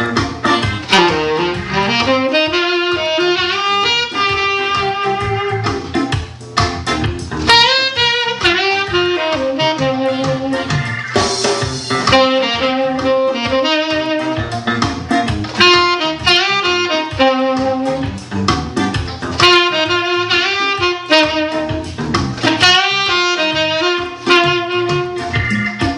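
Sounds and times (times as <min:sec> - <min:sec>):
backing track with steady beat: 0:00.0 - 0:25.9
saxophone playing jazz melody: 0:00.0 - 0:25.9.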